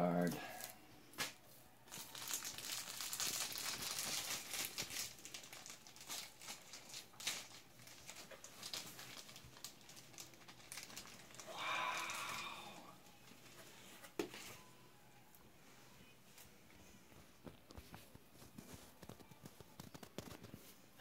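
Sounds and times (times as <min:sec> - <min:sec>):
plastic wrapping crinkling: 0:00.6 - 0:14.7, 0:17.1 - 0:21.0.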